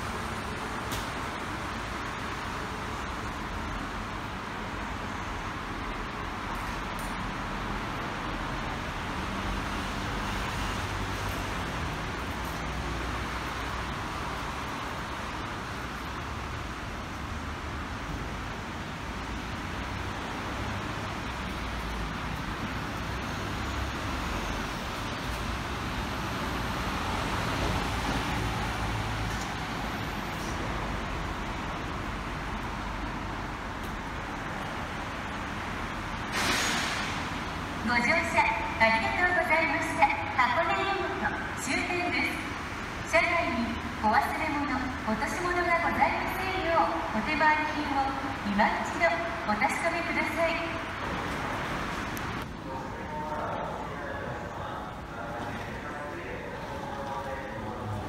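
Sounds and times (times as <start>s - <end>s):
electric train rumbling: 0.0s - 55.2s
traffic noise: 0.0s - 58.0s.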